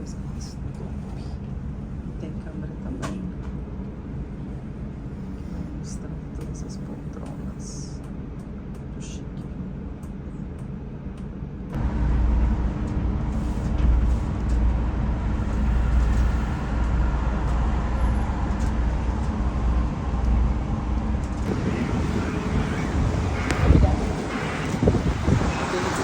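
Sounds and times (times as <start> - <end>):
coach engine and road rumble: 0.0 - 26.0.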